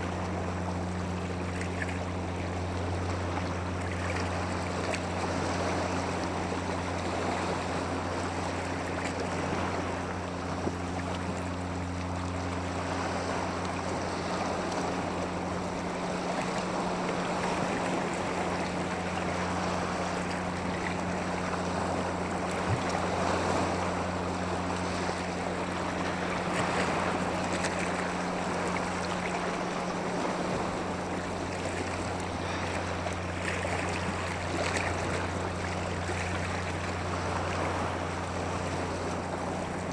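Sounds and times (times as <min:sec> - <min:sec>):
constant low hum: 0:00.0 - 0:39.9
rushing water: 0:00.0 - 0:39.9.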